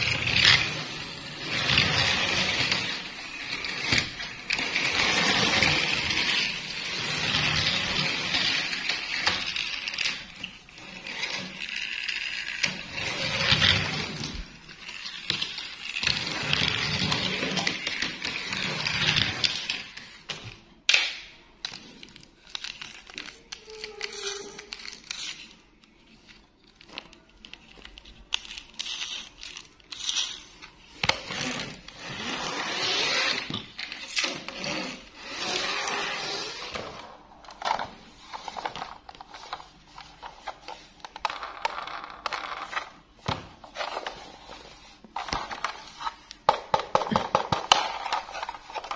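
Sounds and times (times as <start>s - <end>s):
rustling and scraping of plastic and fabric: 0.0s - 20.8s, 21.7s - 48.9s.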